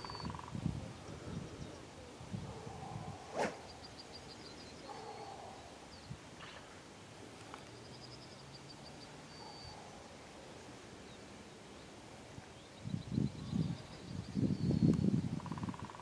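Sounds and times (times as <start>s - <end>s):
songbirds trilling: 0.0s - 6.8s, 7.5s - 16.0s.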